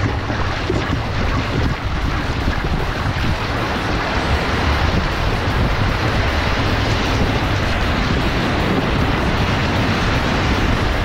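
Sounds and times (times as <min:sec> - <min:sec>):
whitewater rapids rushing: 0:00.0 - 0:11.0
wind buffeting microphone: 0:00.0 - 0:11.0.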